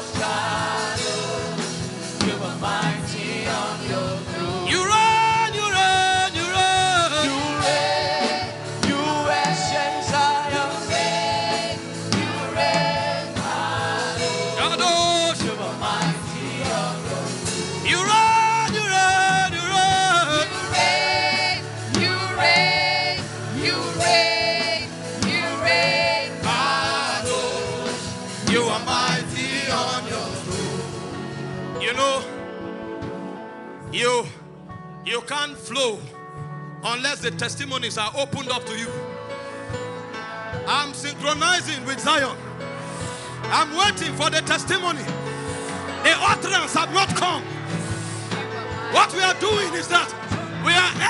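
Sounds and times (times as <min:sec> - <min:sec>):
voices singing gospel: 0:00.0 - 0:32.4, 0:40.3 - 0:51.0
instrumental accompaniment: 0:00.0 - 0:51.0.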